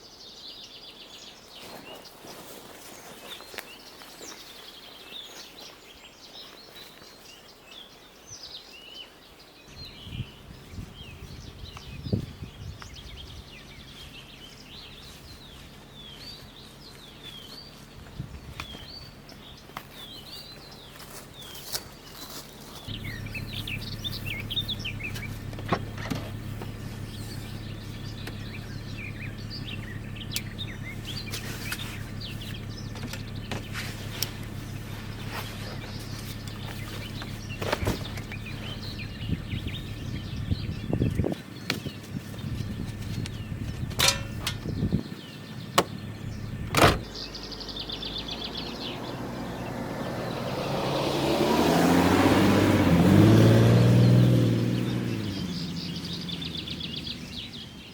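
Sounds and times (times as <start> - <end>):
songbirds chirping and singing: 0.0 - 57.9.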